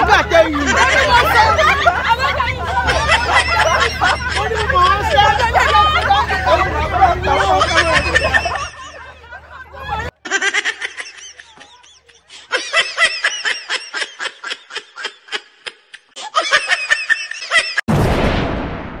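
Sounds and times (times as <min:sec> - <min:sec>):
people laughing loudly: 0:00.0 - 0:17.9.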